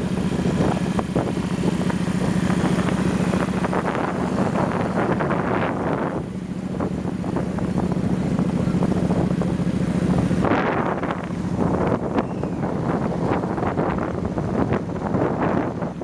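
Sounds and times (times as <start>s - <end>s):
motorbike engine hum: 0.0s - 16.0s
wind buffeting microphone: 0.0s - 16.0s.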